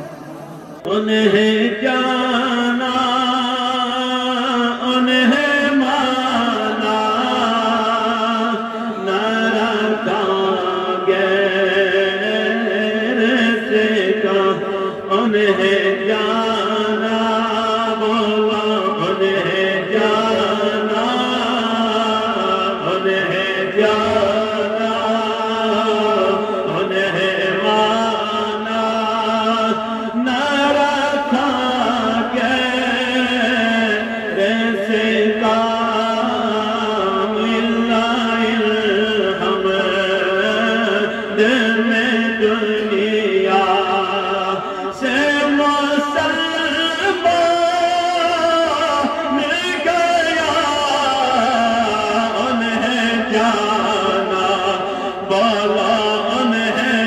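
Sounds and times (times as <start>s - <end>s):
person chanting: 0.0s - 57.0s.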